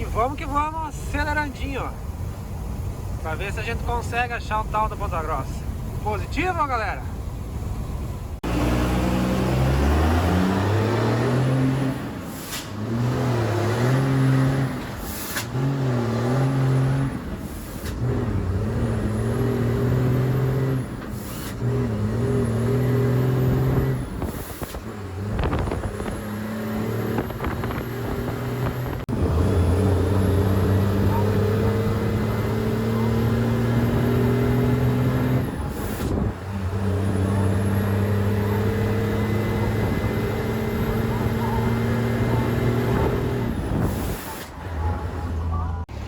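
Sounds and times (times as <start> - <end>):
diesel truck engine pulling under load: 7.0 - 46.0.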